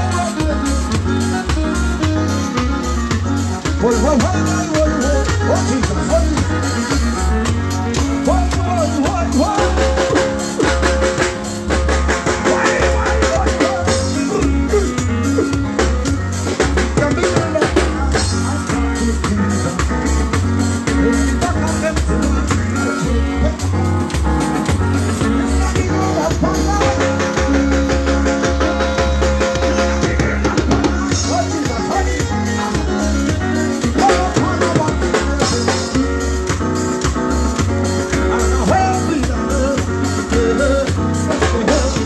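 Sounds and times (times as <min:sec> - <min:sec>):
bass guitar line: 0:00.0 - 0:42.0
drum kit beat: 0:00.0 - 0:42.0.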